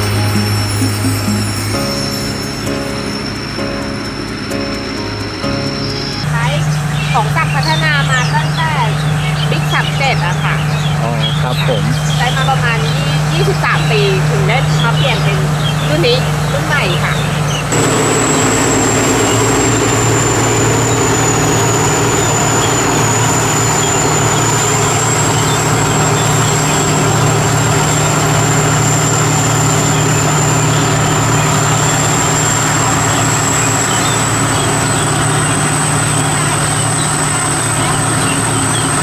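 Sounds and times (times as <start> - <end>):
combine harvester engine drone: 0.0 - 39.0
high whine: 0.0 - 39.0.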